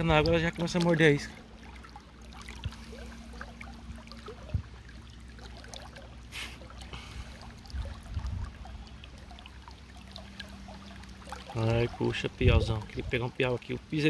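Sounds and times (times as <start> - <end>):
water splash: 0.0 - 13.8
river water trickling: 0.0 - 14.0.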